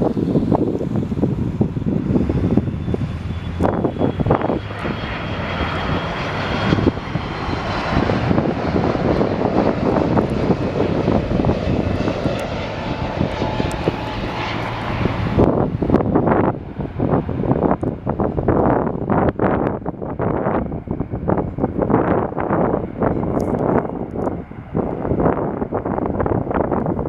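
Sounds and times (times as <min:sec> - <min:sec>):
jet engines rushing: 0:00.0 - 0:27.0
wind buffeting microphone: 0:00.0 - 0:27.0.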